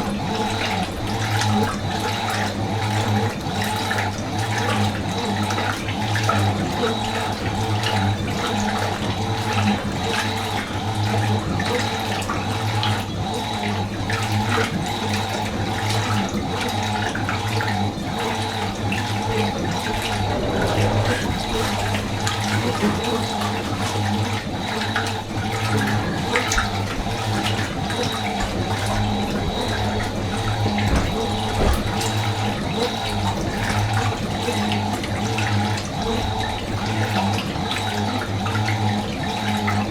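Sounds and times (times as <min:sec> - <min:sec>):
washing machine hum: 0:00.0 - 0:39.9
water rushing and splashing in tub: 0:00.0 - 0:39.9.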